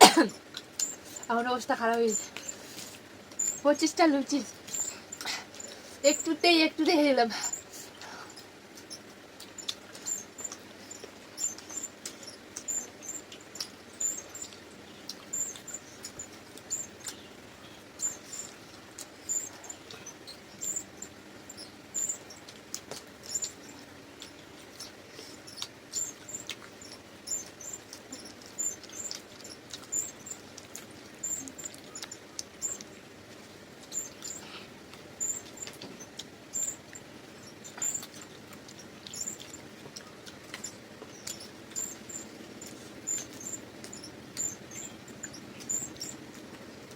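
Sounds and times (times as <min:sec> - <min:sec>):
chewing and lip-smacking: 0:00.4 - 0:03.6, 0:07.5 - 0:46.9.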